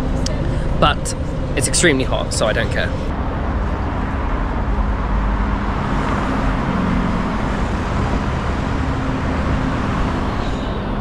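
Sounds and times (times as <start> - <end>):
low engine hum: 0.0 - 11.0
traffic passing close by: 0.0 - 11.0.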